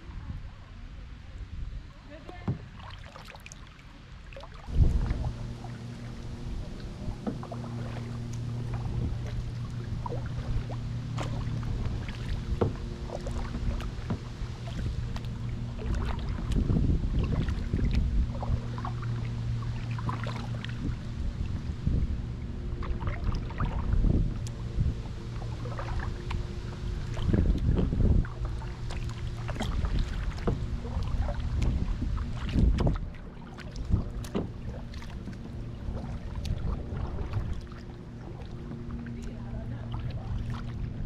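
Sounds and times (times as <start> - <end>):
wind on microphone: 0.0 - 2.9, 4.6 - 41.0
low hum: 0.0 - 41.0
paddle splashing in water: 2.1 - 41.0.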